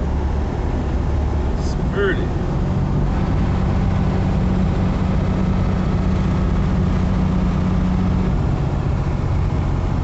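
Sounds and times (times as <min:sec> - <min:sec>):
diesel truck engine droning: 0:00.0 - 0:10.0
road and wind noise: 0:00.0 - 0:10.0.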